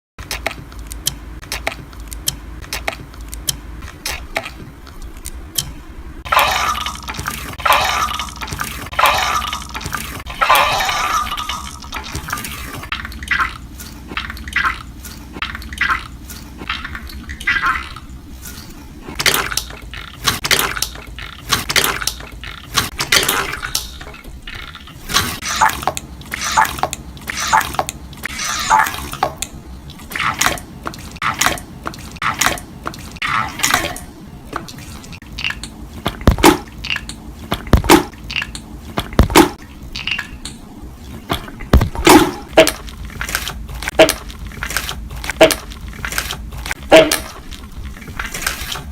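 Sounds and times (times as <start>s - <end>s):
slime squelching: 0.2s - 48.9s.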